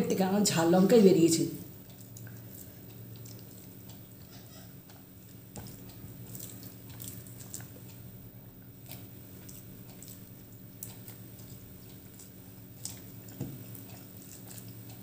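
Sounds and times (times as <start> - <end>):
low steady hum: 0.0 - 15.0
soft chewing: 1.6 - 15.0.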